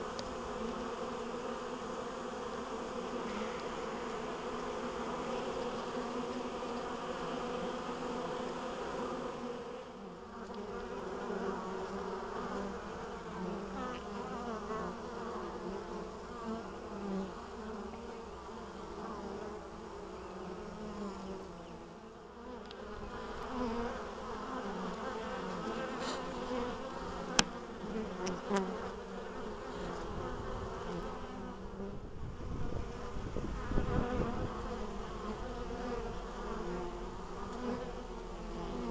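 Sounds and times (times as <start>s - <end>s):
honeybees buzzing: 0.0s - 38.9s.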